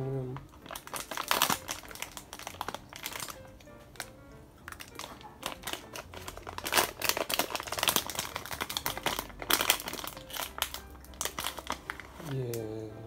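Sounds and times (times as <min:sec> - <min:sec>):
plastic wrapper crinkling: 0:00.3 - 0:12.8.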